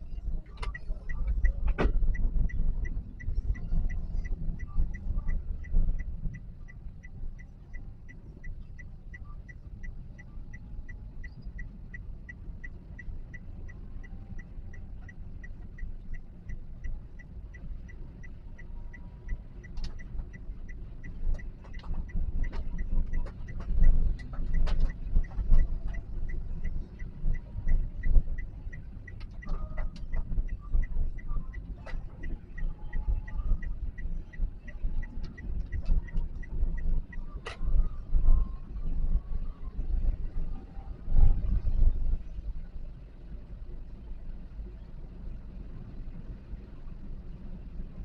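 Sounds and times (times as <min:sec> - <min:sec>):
car engine rumble: 0:00.0 - 0:48.0
turn signal ticking: 0:00.0 - 0:48.0.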